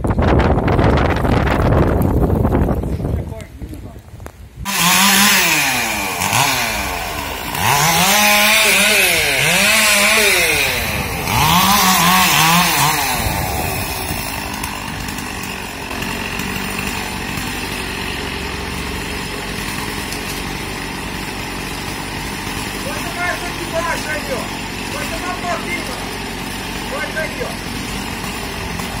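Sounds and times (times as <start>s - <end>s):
chainsaw revving and cutting: 4.6s - 29.0s.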